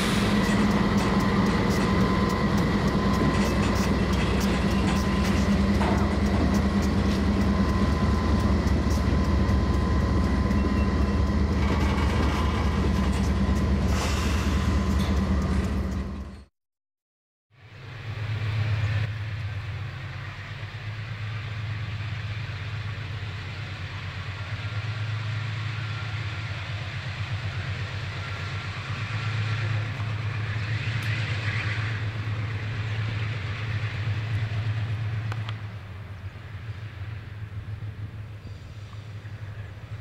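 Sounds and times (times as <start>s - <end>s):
diesel locomotive engines droning: 0.0s - 16.5s, 17.5s - 40.0s.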